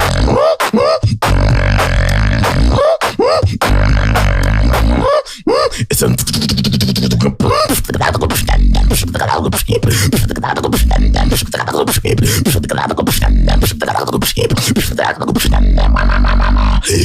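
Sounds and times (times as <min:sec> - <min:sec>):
beatboxing snare and hi-hat clicks: 0:00.0 - 0:05.0, 0:06.0 - 0:15.6
deep vocal bass drops: 0:00.0 - 0:05.1, 0:05.9 - 0:17.0
wobbling vocal bass lines: 0:00.0 - 0:17.0.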